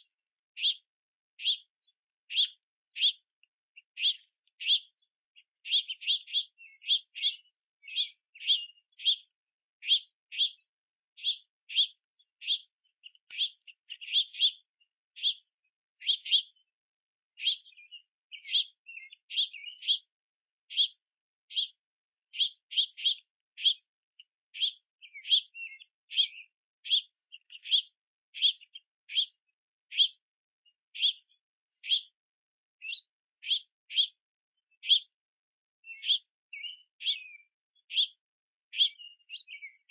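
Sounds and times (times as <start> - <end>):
fledgling birds chirping: 0.0 - 20.1, 20.7 - 23.9, 24.5 - 32.2, 32.8 - 35.2, 35.8 - 39.9.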